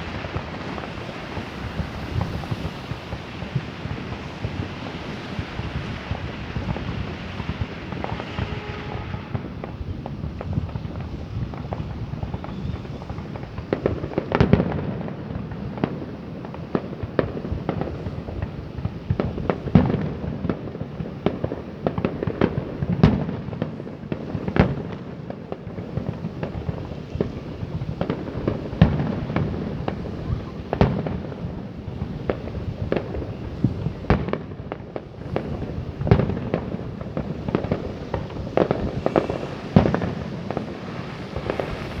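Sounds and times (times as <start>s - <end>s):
fireworks popping and banging: 0.0s - 42.0s.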